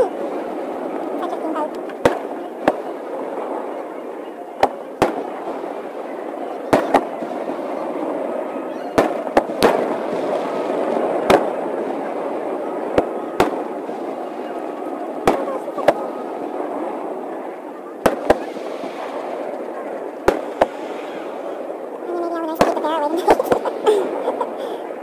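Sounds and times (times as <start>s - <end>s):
din of voices: 0.0s - 8.7s, 11.5s - 25.0s
fireworks bangs: 0.0s - 25.0s.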